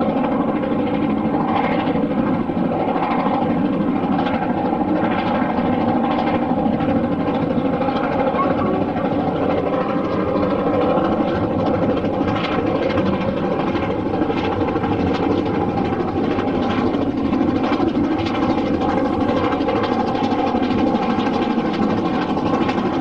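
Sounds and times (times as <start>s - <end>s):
steam train rumbling: 0.1s - 23.0s.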